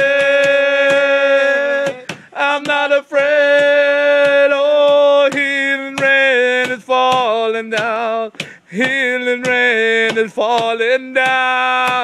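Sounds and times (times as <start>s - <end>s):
man singing a cappella: 0.0s - 12.0s.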